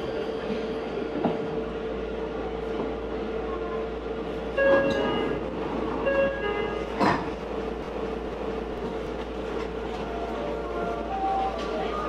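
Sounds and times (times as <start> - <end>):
train car hum: 0.0 - 12.0.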